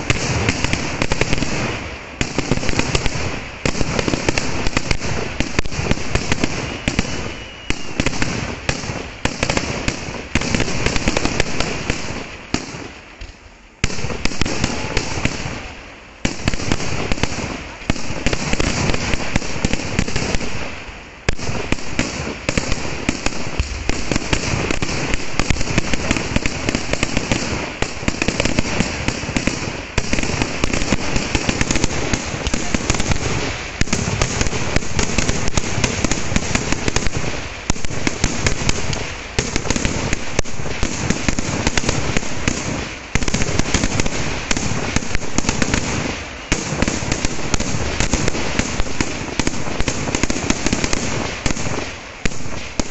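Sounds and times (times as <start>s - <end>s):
firecracker bangs: 0.0s - 52.9s.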